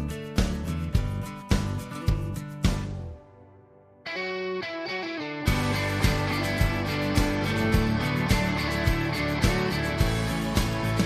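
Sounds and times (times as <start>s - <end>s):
background music with steady beat: 0.0s - 3.4s, 4.1s - 11.0s.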